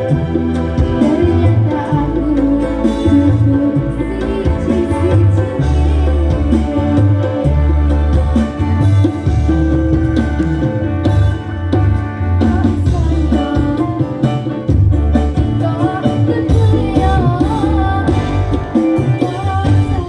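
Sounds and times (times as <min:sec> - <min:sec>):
drums and bass music: 0:00.0 - 0:20.0.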